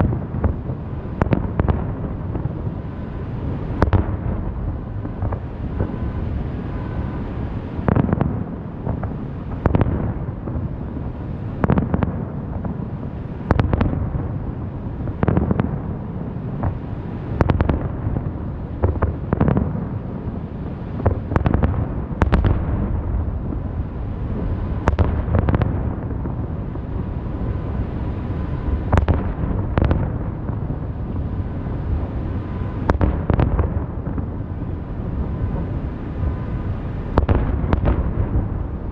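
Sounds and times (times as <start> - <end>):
fireworks booming: 0.0 - 38.9
low rumble of explosions: 0.0 - 38.9.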